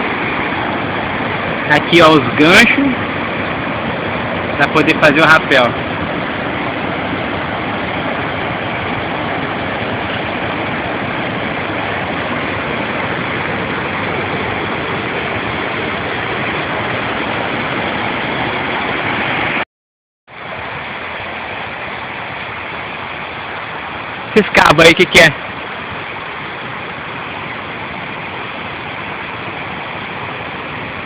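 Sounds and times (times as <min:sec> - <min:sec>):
waterfall rushing: 0:00.0 - 0:19.6, 0:20.3 - 0:31.0.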